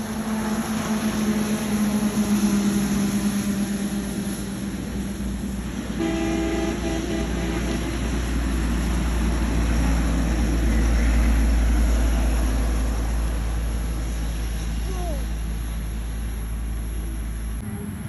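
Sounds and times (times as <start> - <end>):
vehicle running with low rumble: 0.0 - 18.0.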